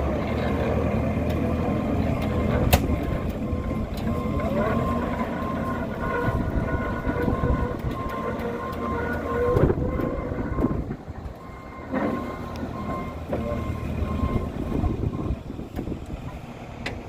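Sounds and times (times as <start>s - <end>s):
skid loader running under load: 0.0s - 17.0s.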